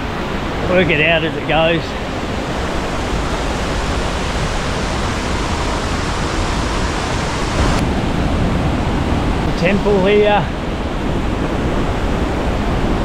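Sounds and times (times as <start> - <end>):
river and waterfall rushing: 0.0 - 13.0.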